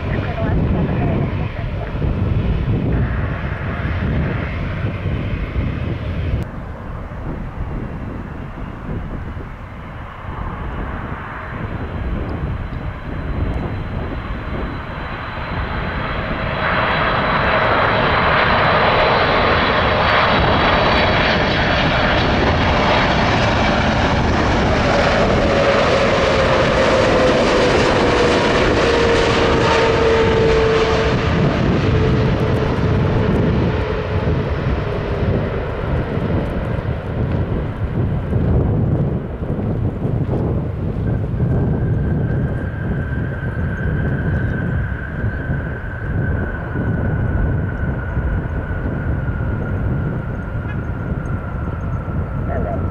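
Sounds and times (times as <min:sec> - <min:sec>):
jet engine whine: 0:00.0 - 0:52.9
jet engines on approach: 0:00.0 - 0:52.9.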